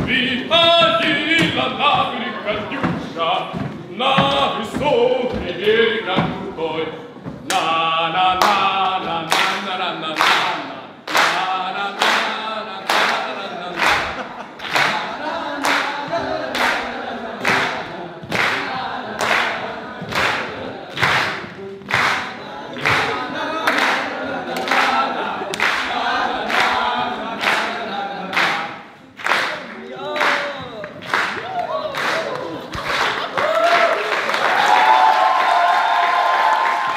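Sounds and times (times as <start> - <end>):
group singing: 0.0 - 34.8.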